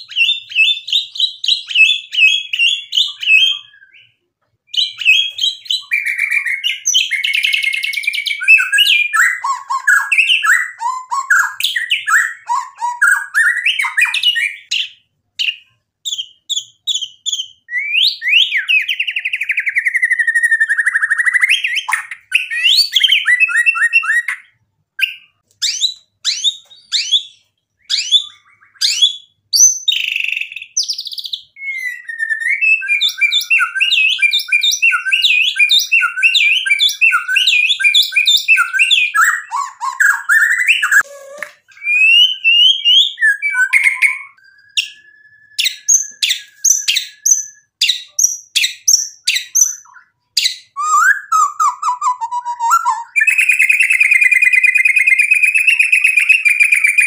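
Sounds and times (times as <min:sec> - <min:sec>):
songbird whistling and trilling: 0:00.0 - 0:57.0.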